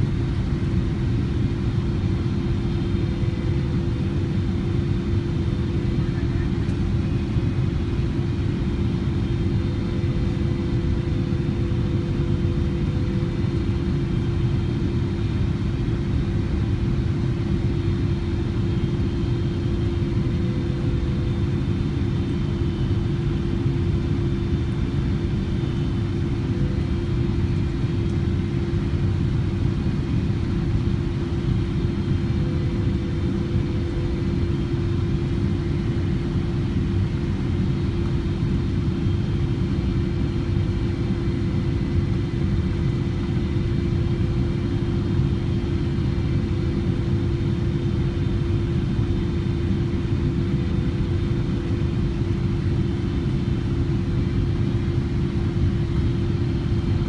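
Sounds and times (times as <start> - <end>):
aircraft engines and airflow rumble: 0.0 - 57.0
constant low hum: 0.0 - 57.0.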